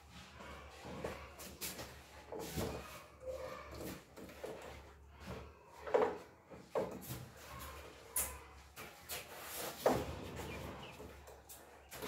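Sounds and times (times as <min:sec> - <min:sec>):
ducklings scraping on plastic: 0:00.4 - 0:12.0.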